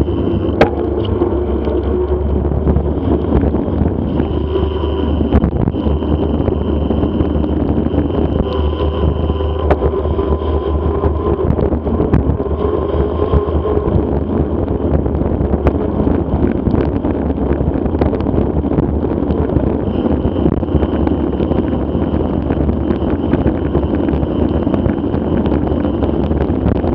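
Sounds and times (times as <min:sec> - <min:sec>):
bike tyres rolling: 0:00.0 - 0:26.9
wind noise: 0:00.0 - 0:26.9.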